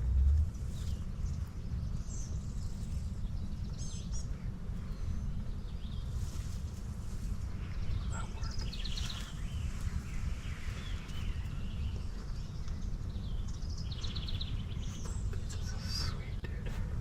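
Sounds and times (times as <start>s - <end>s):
steady low rumble: 0.0s - 17.0s
songbirds trilling: 0.1s - 17.0s.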